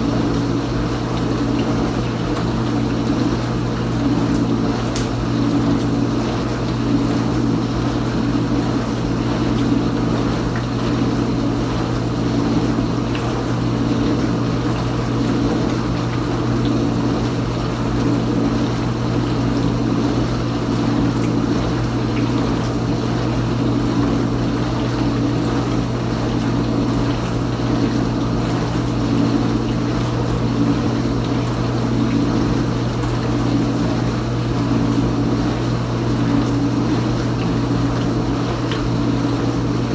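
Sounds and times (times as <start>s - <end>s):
dishwasher pump humming: 0.0s - 39.9s.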